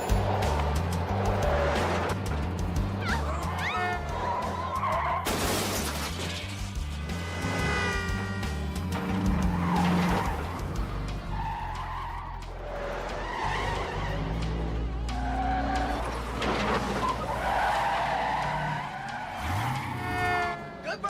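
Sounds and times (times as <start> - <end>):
tires squealing and skidding: 0.0 - 2.3, 2.9 - 6.0, 7.0 - 21.0
vehicle engines running: 0.0 - 5.2, 6.3 - 21.0.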